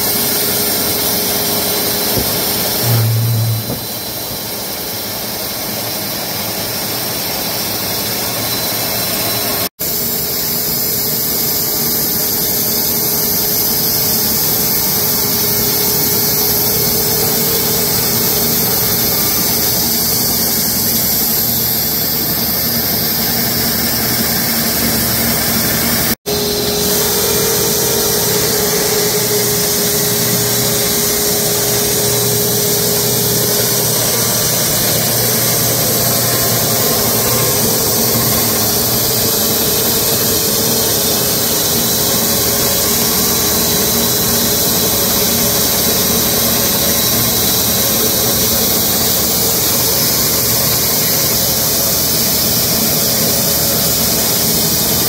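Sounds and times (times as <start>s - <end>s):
band sawmill running: 0.0s - 55.0s.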